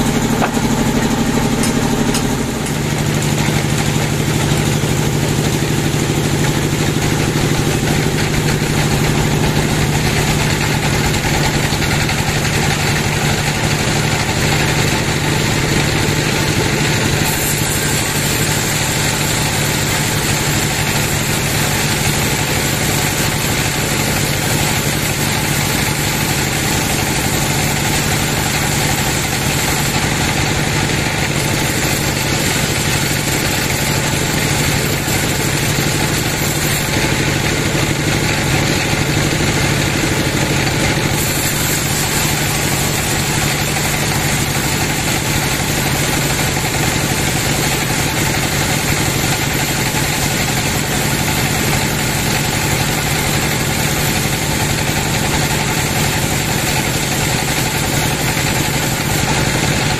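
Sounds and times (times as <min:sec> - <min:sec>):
band saw machine hum: 0:00.0 - 0:59.9
hiss of saw cutting log: 0:00.0 - 0:59.9.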